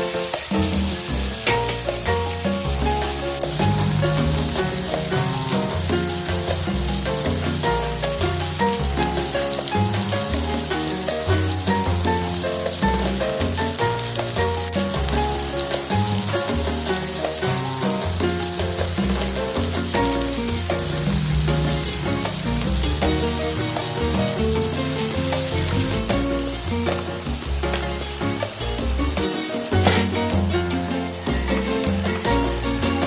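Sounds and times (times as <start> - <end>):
background music: 0.0 - 33.0
food sizzling in hot oil: 0.0 - 33.0.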